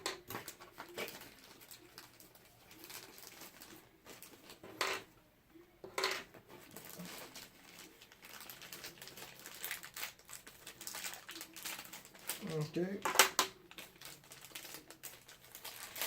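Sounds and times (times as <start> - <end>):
plastic packaging rustling: 0.0 - 5.1, 6.0 - 16.0
plastic parts clacking: 0.0 - 5.1, 5.8 - 16.0.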